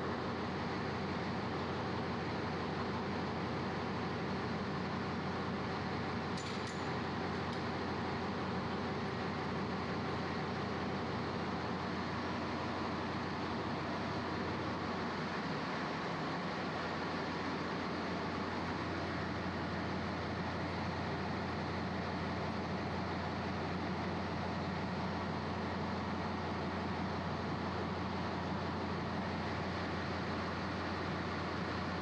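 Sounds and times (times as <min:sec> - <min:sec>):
constant low hum: 0:00.0 - 0:32.0
ship engine room drone: 0:00.0 - 0:32.0.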